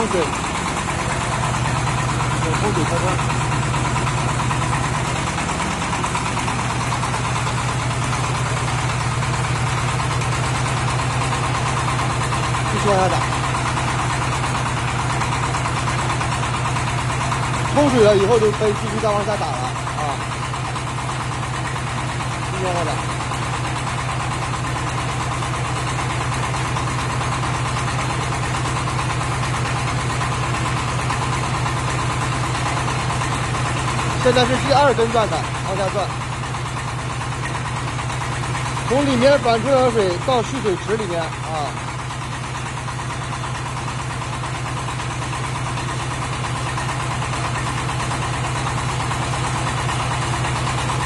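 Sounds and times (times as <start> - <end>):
small gasoline engine running: 0.0 - 51.0.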